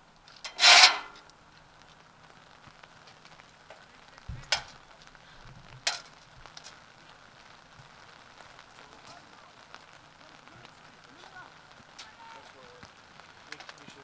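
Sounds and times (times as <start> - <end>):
light rain hissing: 0.0 - 14.0.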